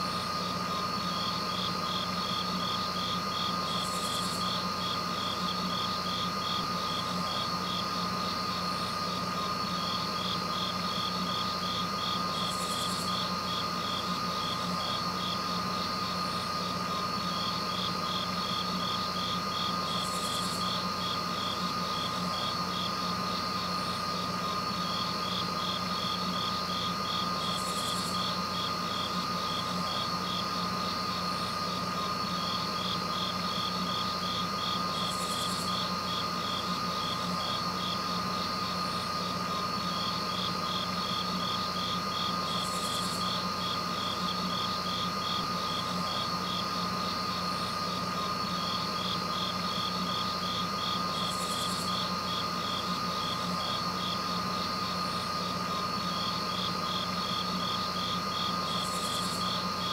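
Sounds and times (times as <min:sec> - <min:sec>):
constant high insect tone: 0:00.0 - 0:59.9
crickets chirping: 0:00.0 - 0:59.9
short buzzy insect call: 0:00.0 - 0:59.9.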